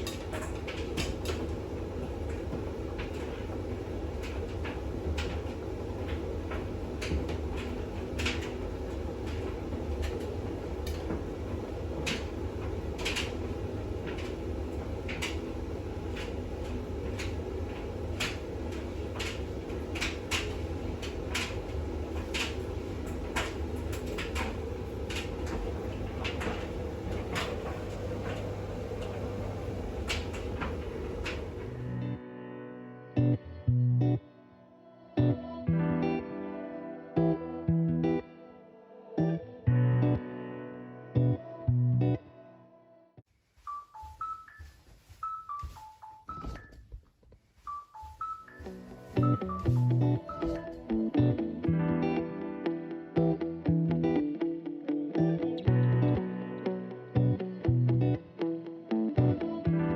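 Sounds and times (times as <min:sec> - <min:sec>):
washing machine humming: 0:00.0 - 0:32.2, 0:43.6 - 0:59.9.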